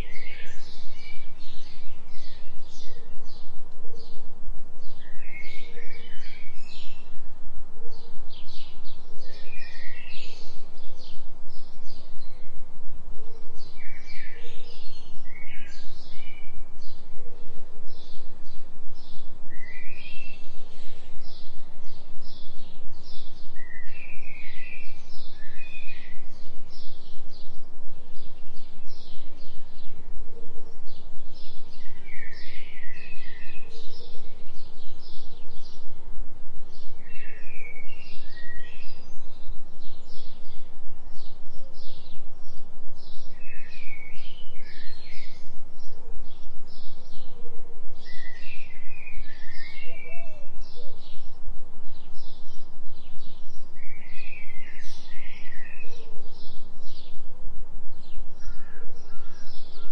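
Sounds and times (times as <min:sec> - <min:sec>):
birds chirping and twittering: 0:00.0 - 0:59.9
low binaural beat tone: 0:00.0 - 0:59.9
soft low bird calls: 0:00.0 - 0:59.9.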